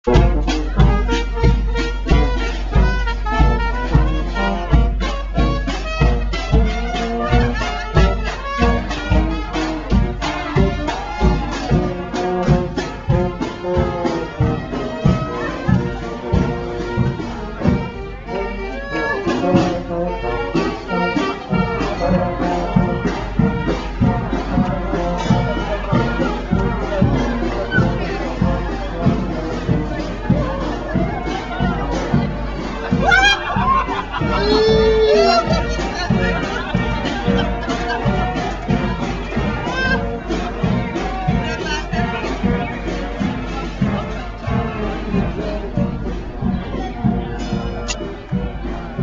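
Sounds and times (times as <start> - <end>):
brass band playing: 0.0 - 49.0
steady drum beat: 0.0 - 49.0.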